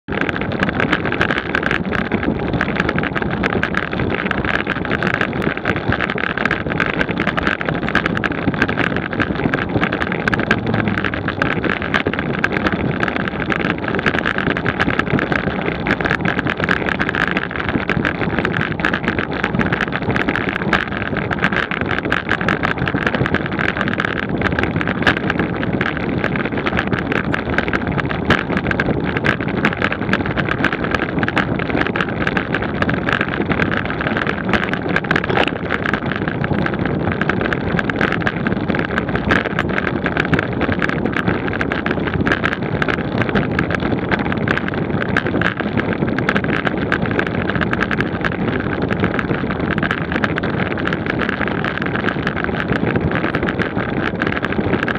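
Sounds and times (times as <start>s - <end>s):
small clicks and rattles: 0.0s - 54.9s
wind rushing over microphone: 0.0s - 54.9s
tyre and road noise: 0.1s - 54.9s.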